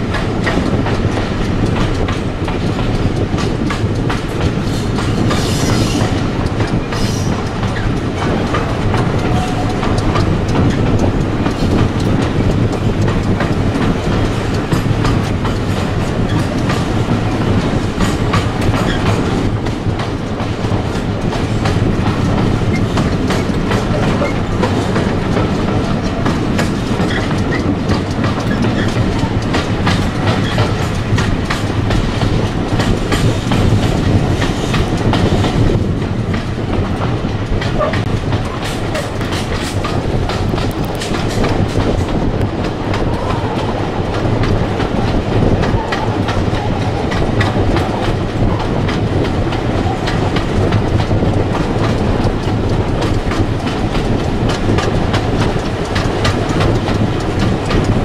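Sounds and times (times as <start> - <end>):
track clicks and rattles: 0.0 - 58.0
train wheels rumbling on rails: 0.0 - 58.0.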